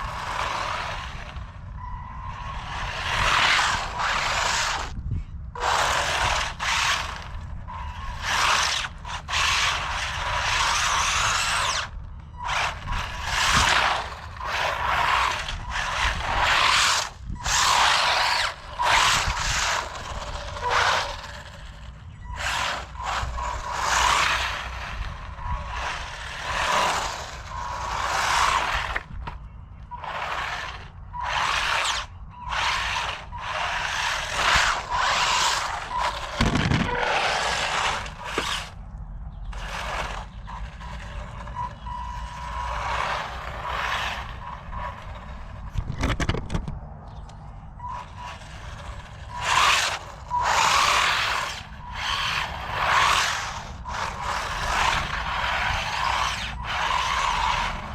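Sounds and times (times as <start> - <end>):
electric motor whirring: 0.0 - 38.8, 39.5 - 46.4, 47.8 - 57.9.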